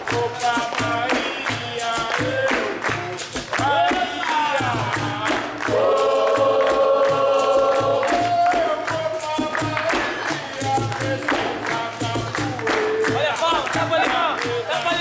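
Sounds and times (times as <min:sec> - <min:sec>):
group of voices singing: 0:00.0 - 0:15.0
low hand-drum beat: 0:00.0 - 0:15.0.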